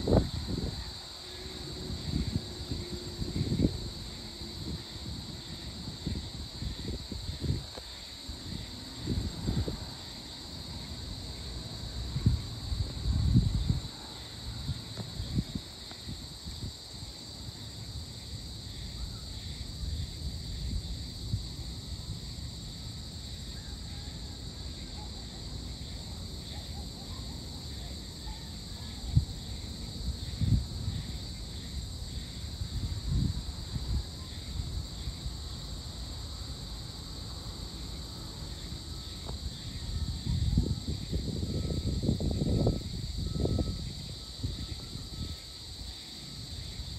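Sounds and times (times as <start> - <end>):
insects chorus: 0.0 - 46.9
wind rumbling on microphone: 0.0 - 46.9.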